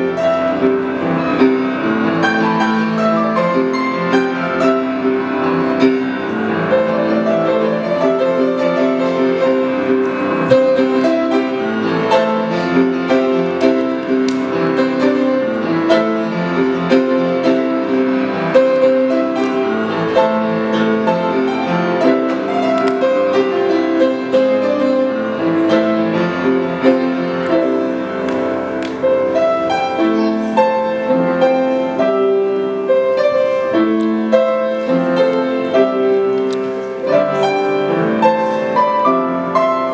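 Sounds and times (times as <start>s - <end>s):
piano playing: 0.0s - 39.9s.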